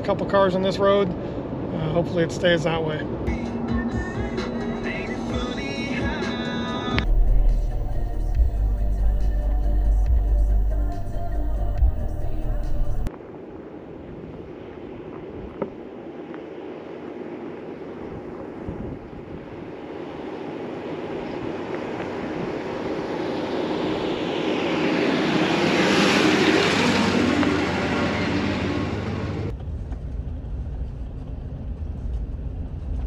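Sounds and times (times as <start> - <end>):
vehicle passing on road: 1.1 - 33.0
steady low rumble: 2.9 - 33.0.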